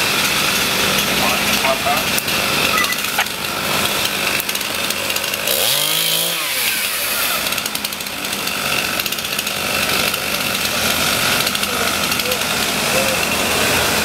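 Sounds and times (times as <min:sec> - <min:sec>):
chainsaw cutting trees: 0:00.0 - 0:14.0.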